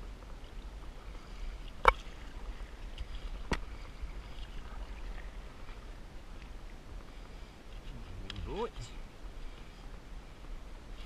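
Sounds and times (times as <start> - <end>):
low steady rumble: 0.0 - 11.0
paddle strokes in water: 0.0 - 11.0.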